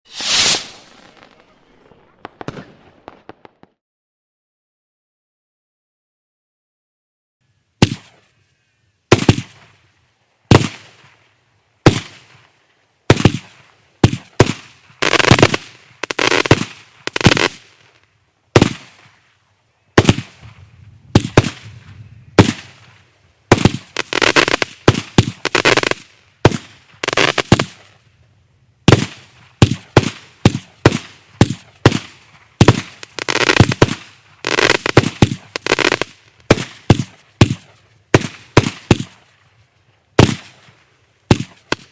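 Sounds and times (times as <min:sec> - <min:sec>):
firework shots with crackling: 0:00.1 - 0:03.8, 0:07.8 - 0:08.2, 0:09.1 - 0:09.9, 0:10.5 - 0:11.2, 0:11.8 - 0:19.2, 0:20.0 - 0:28.0, 0:28.8 - 0:41.9.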